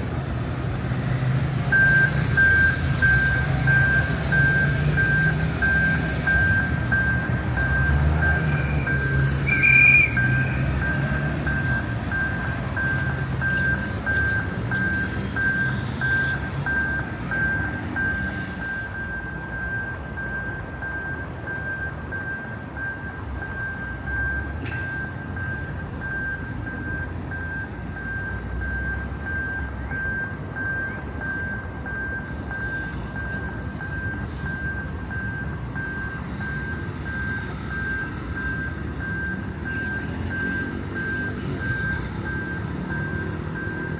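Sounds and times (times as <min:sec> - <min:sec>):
road traffic noise: 0:00.0 - 0:43.9
level crossing signal beeping: 0:01.7 - 0:43.9.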